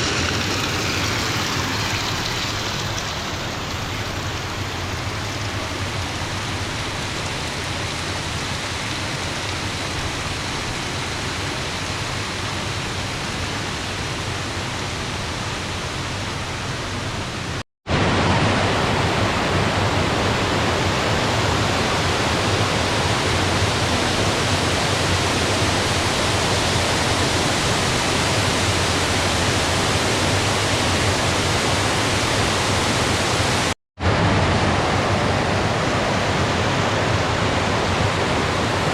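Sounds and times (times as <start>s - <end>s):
rushing flowing water: 0.0s - 38.9s.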